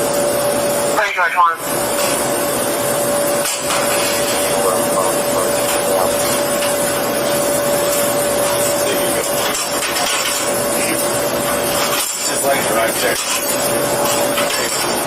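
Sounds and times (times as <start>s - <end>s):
mid-pitched hum: 0.0s - 15.0s.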